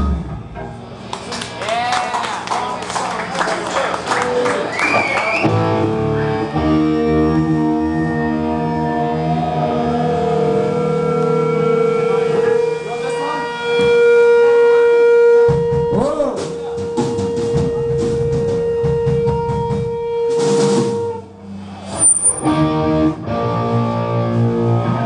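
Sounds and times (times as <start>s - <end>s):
guitar feedback tone: 0.0s - 1.1s, 4.2s - 25.0s
live band playing: 3.9s - 25.0s.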